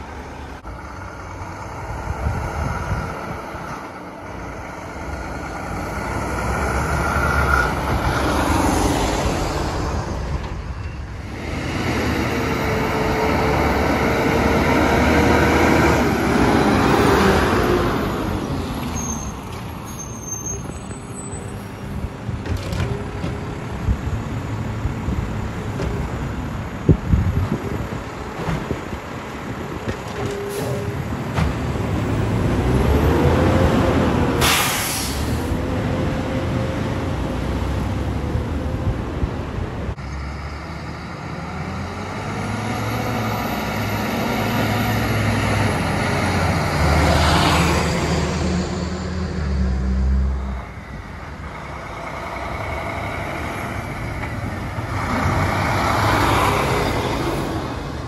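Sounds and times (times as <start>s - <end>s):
diesel trucks driving past: 0.0s - 58.0s.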